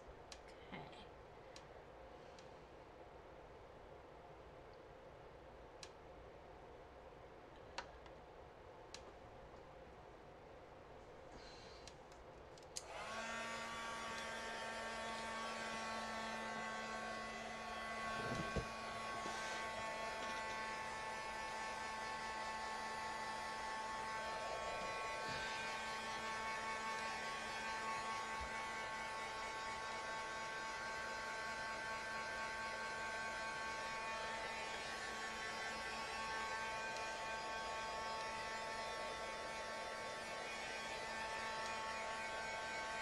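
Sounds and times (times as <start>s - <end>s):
electrical hum: 0.0s - 43.0s.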